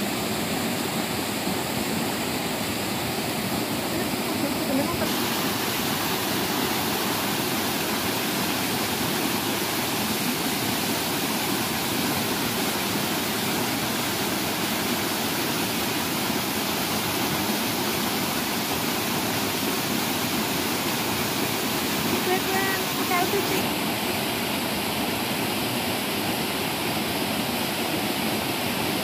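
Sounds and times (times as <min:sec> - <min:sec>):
small waterfall rushing: 0:00.0 - 0:29.0.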